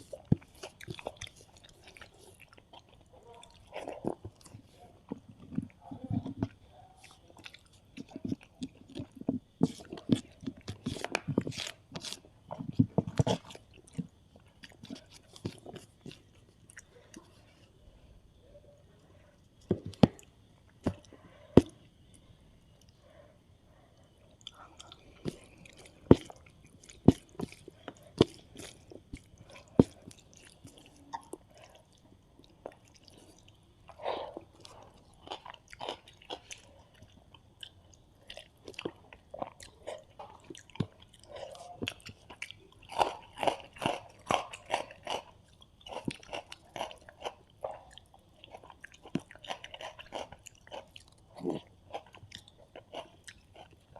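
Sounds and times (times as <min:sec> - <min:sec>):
food crunching: 0:00.0 - 0:17.6, 0:24.0 - 0:53.9
wet chewing: 0:00.0 - 0:17.6, 0:19.4 - 0:53.9.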